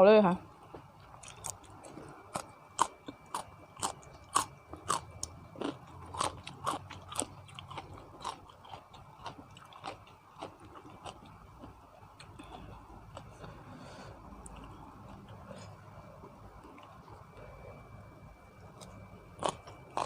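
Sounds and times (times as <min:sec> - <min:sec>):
person chewing crunchy food: 0:00.7 - 0:15.8, 0:18.6 - 0:20.0.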